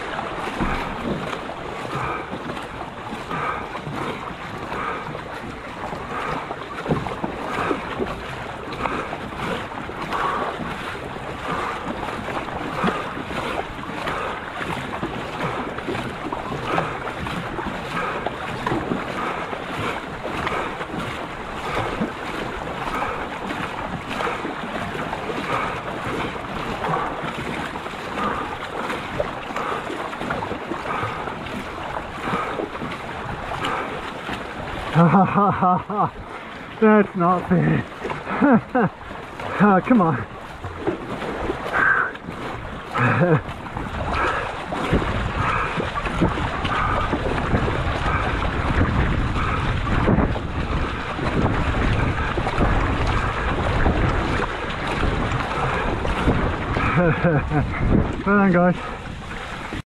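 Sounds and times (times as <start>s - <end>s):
wind buffeting microphone: 0.0s - 59.8s
paddle strokes splashing water: 0.0s - 59.9s.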